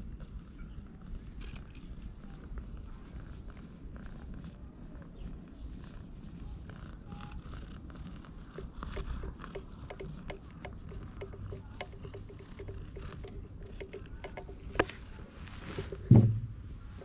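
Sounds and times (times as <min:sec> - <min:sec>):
hand stroking cat fur: 0:01.1 - 0:17.0.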